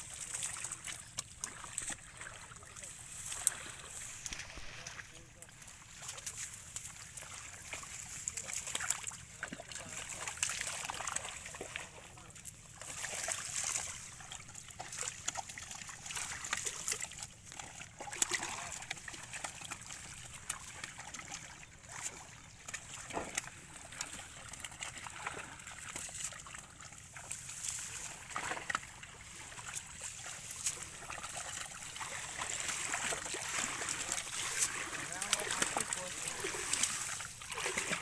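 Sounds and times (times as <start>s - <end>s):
water splashing and sloshing: 0.0s - 38.0s
water trickling: 5.4s - 38.0s.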